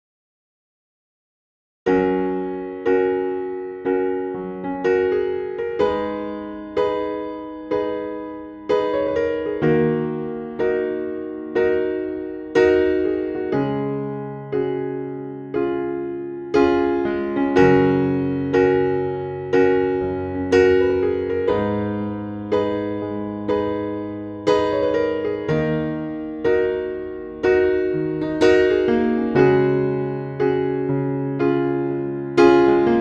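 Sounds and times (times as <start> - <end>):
gentle electric piano music: 1.9 - 33.0.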